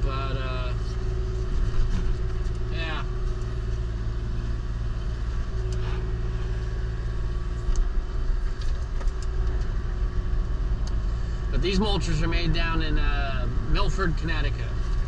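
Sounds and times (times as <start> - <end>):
excavator diesel engine running: 0.0 - 15.0
hydraulic mulcher whine: 0.0 - 15.0.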